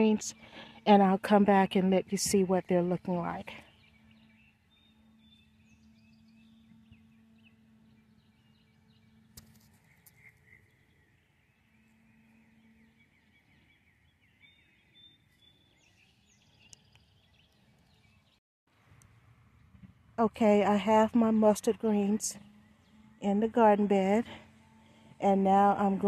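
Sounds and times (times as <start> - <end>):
faint songbird chirps: 1.6 - 18.4, 21.2 - 26.0.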